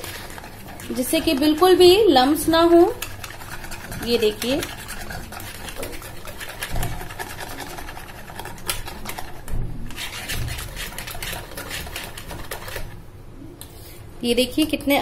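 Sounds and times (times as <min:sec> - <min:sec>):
wire whisk beating batter: 0:00.0 - 0:13.0.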